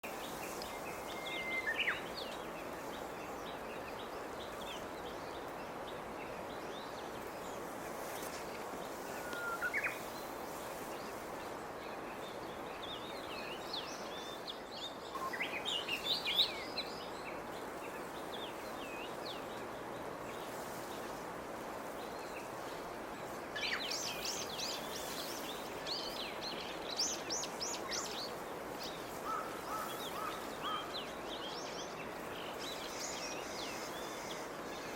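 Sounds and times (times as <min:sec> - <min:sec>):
outdoor background hiss: 0:00.0 - 0:34.9
songbirds calling: 0:00.0 - 0:34.9.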